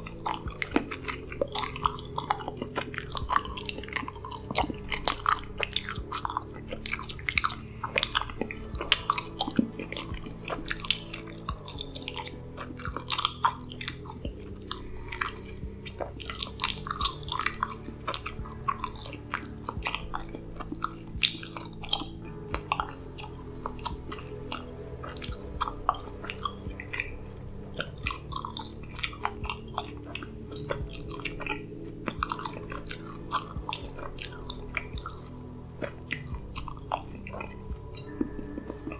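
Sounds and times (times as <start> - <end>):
gum chewing: 0.0 - 38.9
low steady drone: 0.0 - 38.9.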